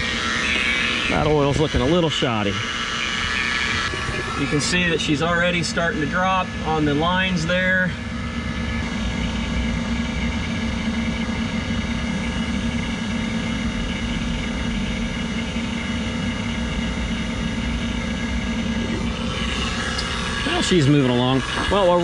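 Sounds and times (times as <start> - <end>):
vacuum pump droning: 0.0 - 22.0.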